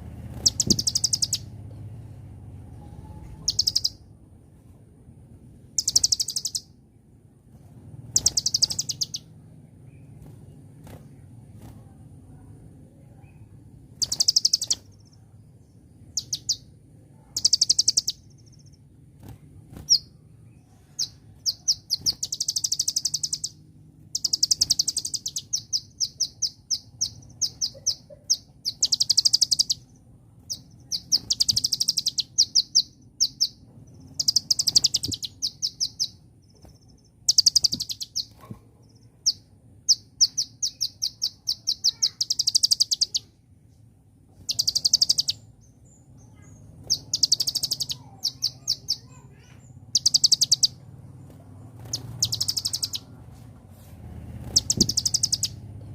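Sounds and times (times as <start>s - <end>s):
small bird singing fast trills: 0.0s - 4.2s, 5.5s - 55.9s.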